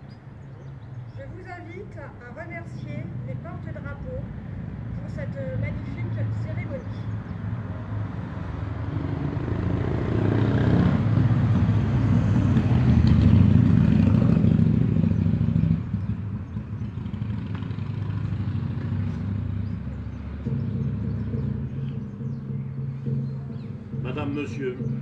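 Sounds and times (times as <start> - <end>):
vehicle engine passing: 2.8 - 25.0.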